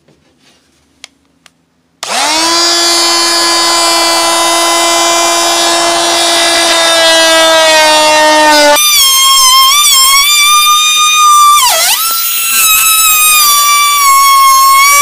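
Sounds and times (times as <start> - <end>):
oscillating multi-tool buzzing: 2.0 - 15.0.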